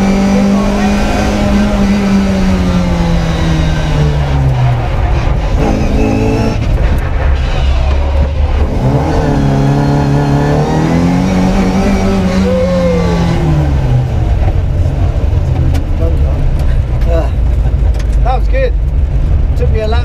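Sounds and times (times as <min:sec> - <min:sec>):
car engine accelerating hard: 0:00.0 - 0:19.5.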